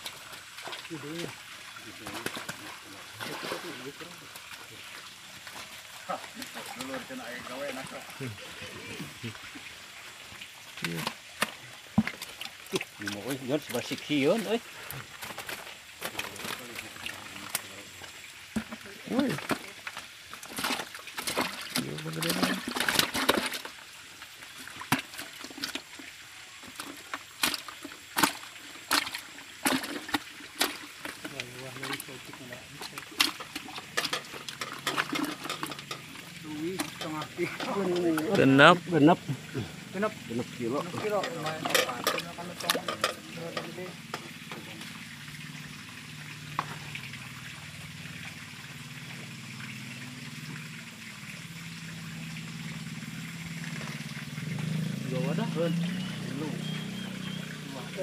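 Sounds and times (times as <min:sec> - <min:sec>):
fish splashing in bucket: 0:00.0 - 0:58.0
water running: 0:00.0 - 0:58.0.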